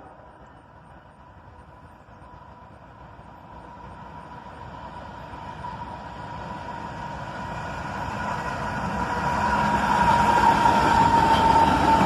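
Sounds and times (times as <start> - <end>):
diesel train rumble: 0.0 - 12.0.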